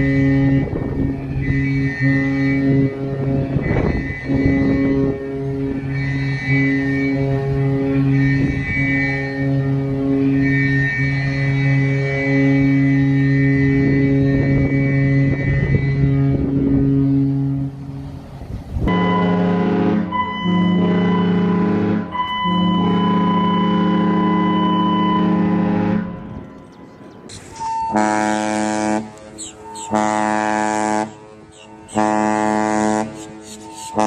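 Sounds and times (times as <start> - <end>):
rushing background noise: 0.0 - 34.0
ship horn sounding notes: 0.0 - 34.0.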